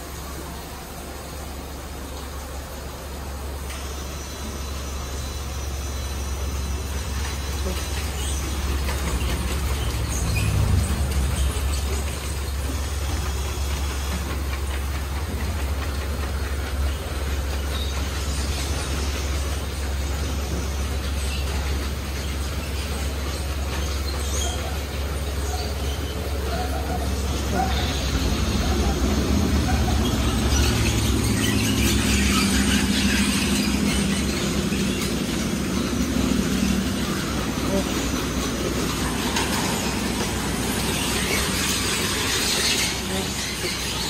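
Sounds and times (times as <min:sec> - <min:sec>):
car wash brushes spinning: 0:00.0 - 0:44.0
low machine hum: 0:00.0 - 0:44.0.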